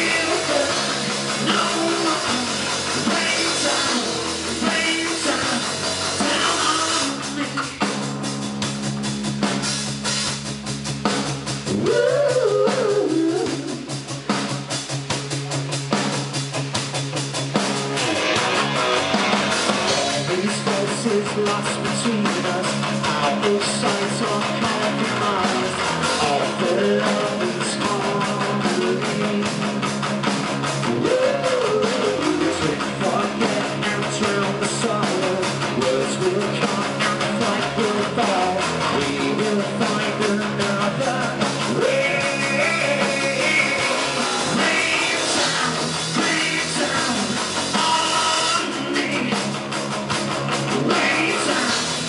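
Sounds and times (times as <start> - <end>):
bass guitar: 0.0 - 52.0
drum kit: 0.0 - 52.0
electric guitar: 0.0 - 52.0.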